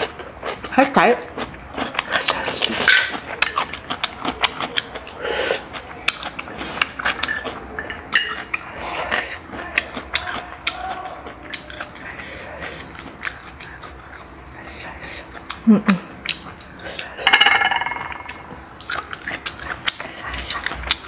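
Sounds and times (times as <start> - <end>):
mouth eating sounds: 0.0 - 17.2.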